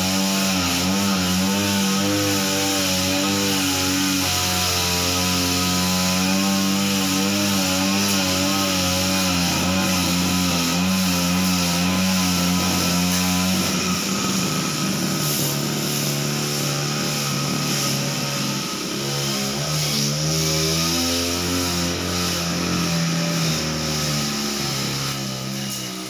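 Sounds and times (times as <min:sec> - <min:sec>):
brush cutter engine running: 0:00.0 - 0:26.0.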